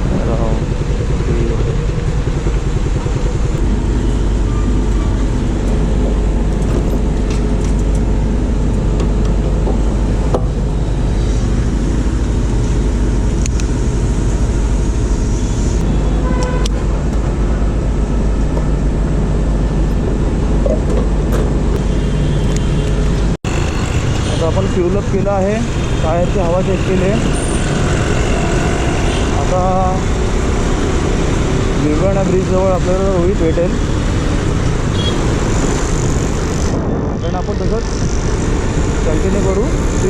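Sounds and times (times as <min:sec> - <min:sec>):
motorcycle engine and road rumble: 0:00.0 - 0:40.0.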